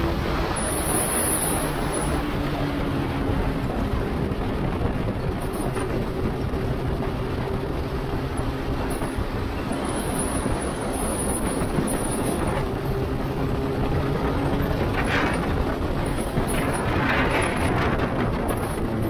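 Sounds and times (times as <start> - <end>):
motorcycle engine hum: 0.0 - 19.0
wind rush on microphone: 0.0 - 19.0.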